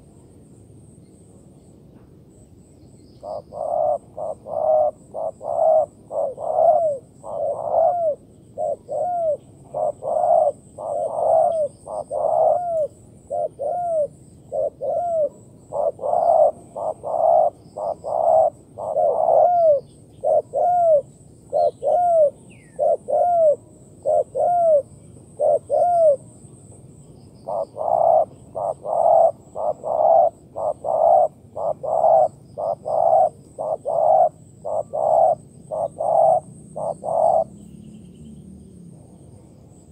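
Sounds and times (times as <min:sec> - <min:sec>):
doves cooing: 0:03.2 - 0:26.3, 0:27.4 - 0:37.7.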